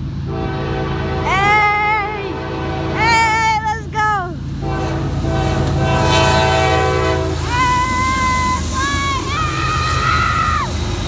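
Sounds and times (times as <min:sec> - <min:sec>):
passing train drone: 0:00.0 - 0:11.0
locomotive air horn chord: 0:00.3 - 0:03.7, 0:04.6 - 0:10.0.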